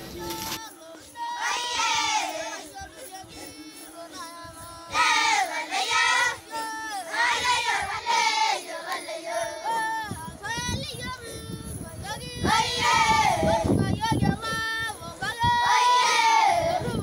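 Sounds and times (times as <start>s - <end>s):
high-pitched singing: 0.0s - 17.0s.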